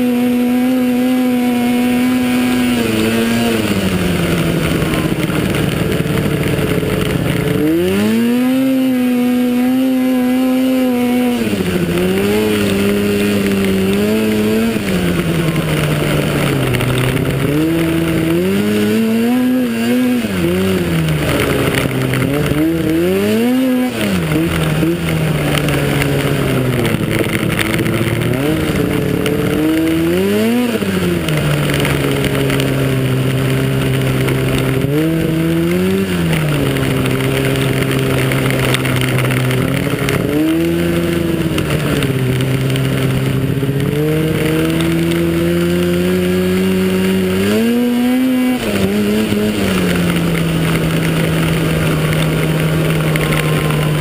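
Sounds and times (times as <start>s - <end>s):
rush of track and snow: 0.0s - 54.0s
snowmobile engine revving: 0.0s - 54.0s.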